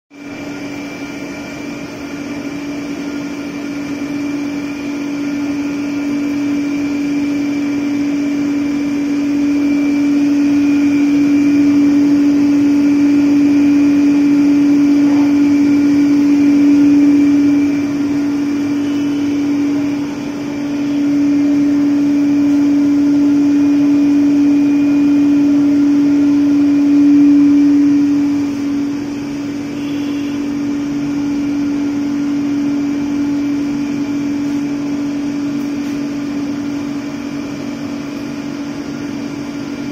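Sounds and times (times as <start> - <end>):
faint high motor whine: 0.1 - 39.9
electric motors humming: 0.2 - 39.9.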